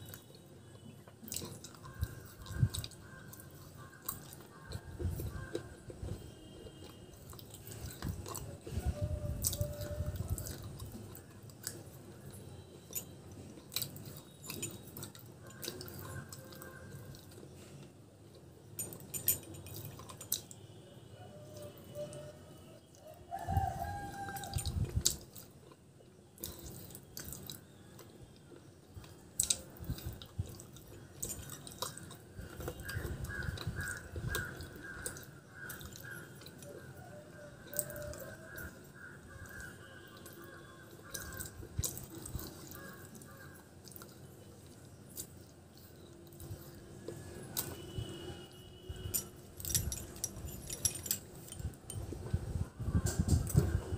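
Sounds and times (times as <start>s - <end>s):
chewing and crunching clay pieces: 0.0s - 53.9s.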